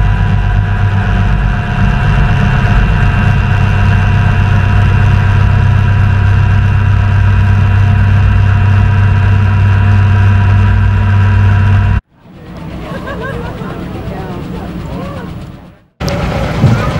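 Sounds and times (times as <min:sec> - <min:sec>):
helicopter drone: 0:00.0 - 0:16.9
high whining tones: 0:00.0 - 0:16.9.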